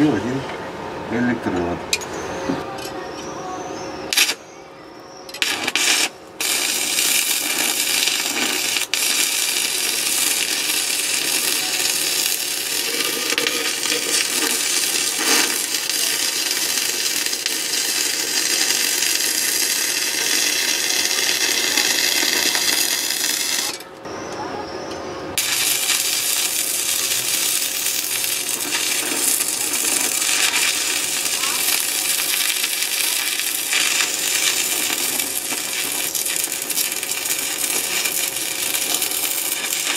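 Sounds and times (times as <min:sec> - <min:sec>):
welding arc hissing: 0:04.1 - 0:04.4, 0:05.3 - 0:23.9, 0:25.4 - 0:39.9.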